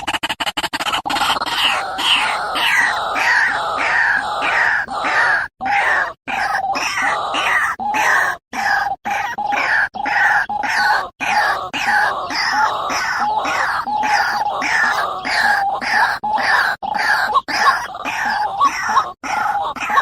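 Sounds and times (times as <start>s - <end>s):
waterhen calls: 0.0s - 20.0s.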